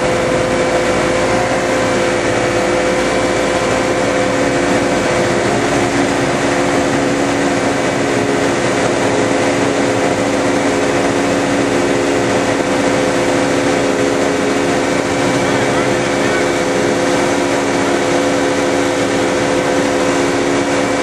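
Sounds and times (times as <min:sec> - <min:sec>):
boat machinery drone: 0:00.0 - 0:21.0
churning propeller wash: 0:00.0 - 0:21.0.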